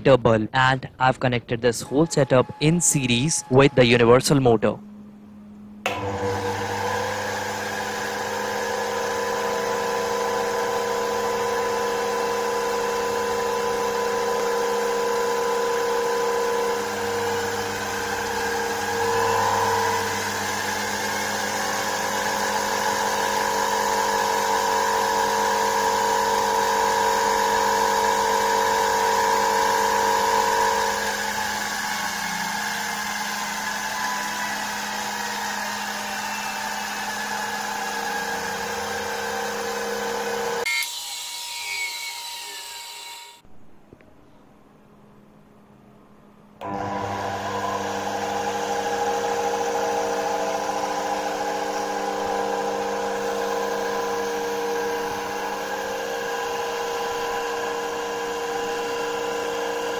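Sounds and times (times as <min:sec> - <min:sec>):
electric motor whine: 0:01.8 - 0:04.4, 0:05.9 - 0:41.8, 0:46.6 - 0:59.9.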